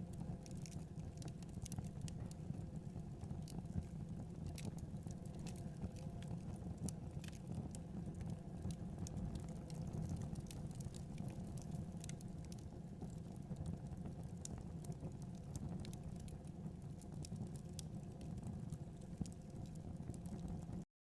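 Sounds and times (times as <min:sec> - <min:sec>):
fireplace fire crackling: 0:00.0 - 0:20.8.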